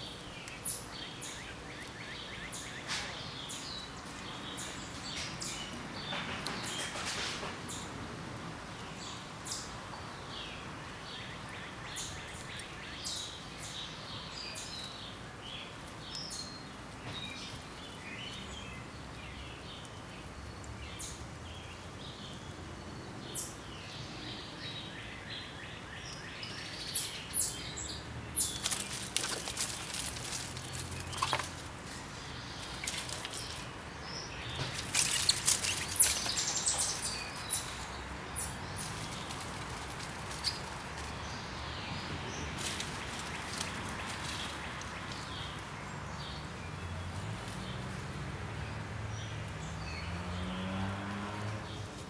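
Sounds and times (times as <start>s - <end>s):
birds chirping: 0.0s - 8.0s, 8.6s - 52.0s
crackling rustle: 0.0s - 50.3s, 51.0s - 52.0s.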